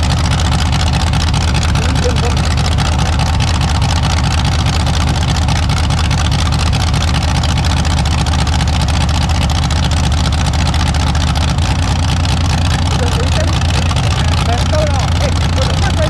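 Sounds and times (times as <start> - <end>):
loud engine running: 0.0 - 16.0.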